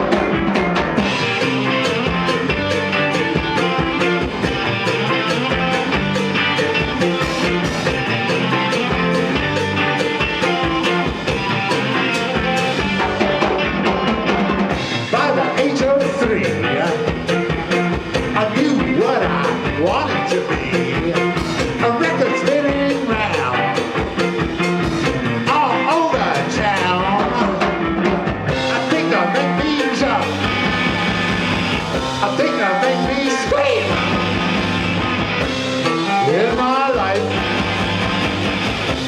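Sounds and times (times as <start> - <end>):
rock band playing live: 0.0 - 39.0
steady drumbeat: 0.0 - 39.0.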